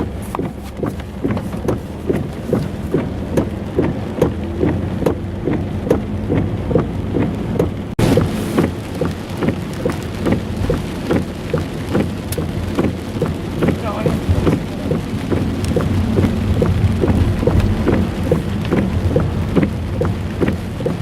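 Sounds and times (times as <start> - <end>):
low rumble: 0.0 - 21.0
rain drops splashing: 0.0 - 21.0.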